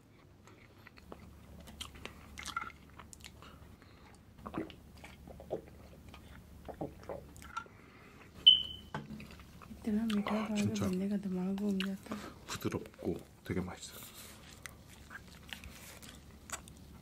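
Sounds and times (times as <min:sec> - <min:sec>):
man chewing: 0:00.0 - 0:08.6, 0:11.8 - 0:17.0.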